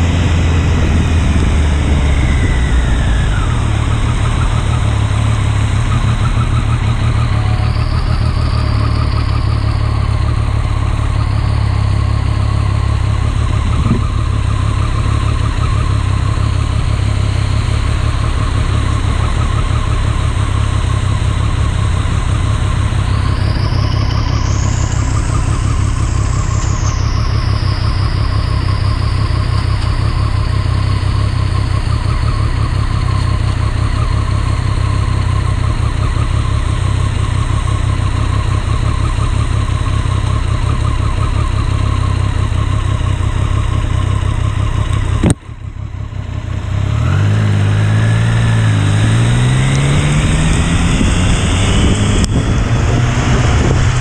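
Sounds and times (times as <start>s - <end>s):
motorcycle engine idling: 0.0s - 52.8s
motorcycle pulling away: 0.0s - 54.0s.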